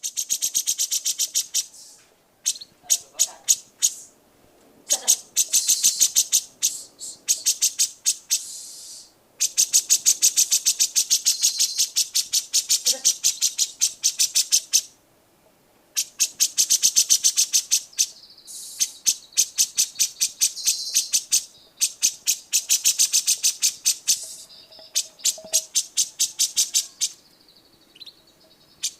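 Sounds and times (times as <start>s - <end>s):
songbird chipping: 0.0s - 4.2s, 4.9s - 15.0s, 15.9s - 28.9s.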